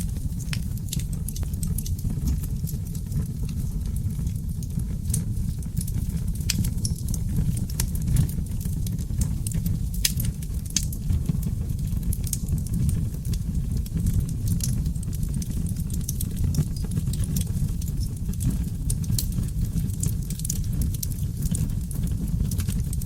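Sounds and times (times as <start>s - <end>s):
logs crackling and popping: 0.0s - 23.0s
low roar of flames: 0.0s - 23.0s.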